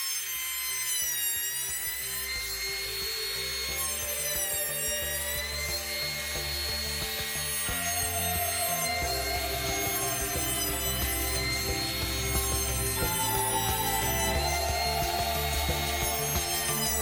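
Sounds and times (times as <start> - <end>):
electric planer whining: 0.0 - 17.0.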